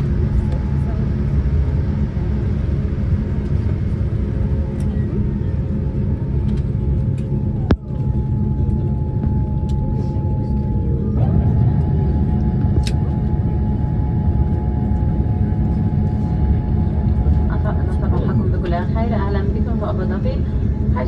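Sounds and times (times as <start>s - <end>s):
airplane cabin rumble: 0.0s - 21.0s.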